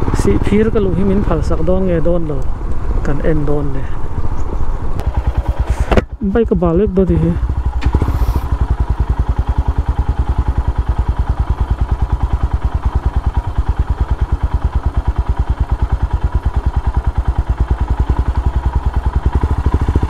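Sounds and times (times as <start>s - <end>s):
motorcycle engine at low revs: 0.0s - 20.0s.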